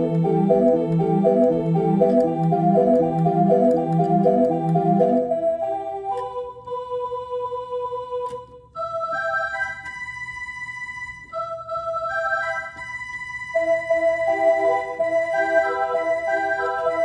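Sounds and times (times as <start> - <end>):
slow organ-toned keyboard music: 0.0 - 17.0.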